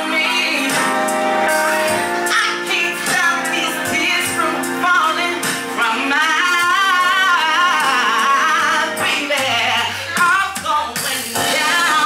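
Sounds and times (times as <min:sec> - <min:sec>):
electronic keyboard chords: 0:00.0 - 0:12.0
woman singing into a microphone: 0:00.0 - 0:12.0.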